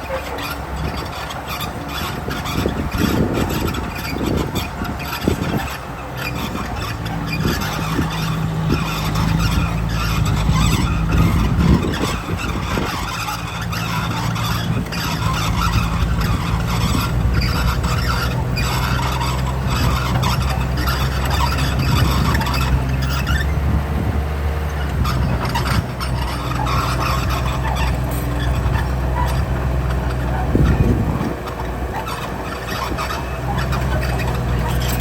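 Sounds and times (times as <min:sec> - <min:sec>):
diesel engine running: 0:00.0 - 0:35.0
high-pitched squealing: 0:00.0 - 0:35.0.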